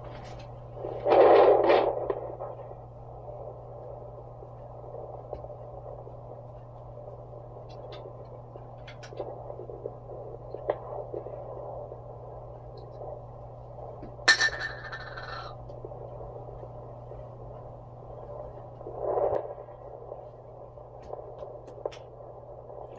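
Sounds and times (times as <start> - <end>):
doppler speaker muffled hiss: 0.0 - 22.9
low hum: 0.0 - 22.9.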